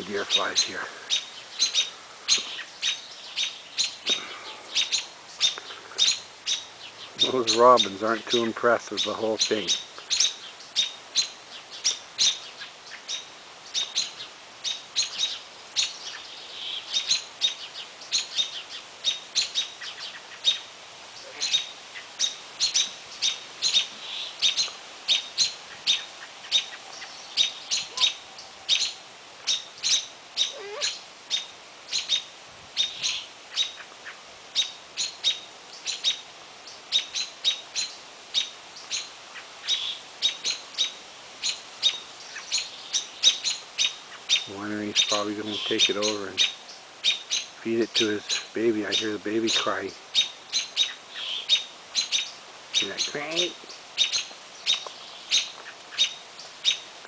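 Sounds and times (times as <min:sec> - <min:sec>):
robin alarm calls: 0:00.0 - 0:57.0.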